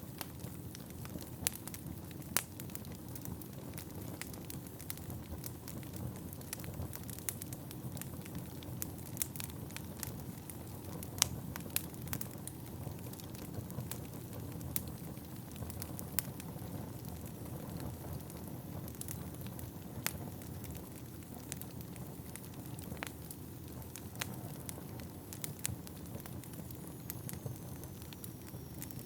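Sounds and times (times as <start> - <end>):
wood crackling and popping: 0.0 - 29.0
fire flames rushing: 0.1 - 29.0.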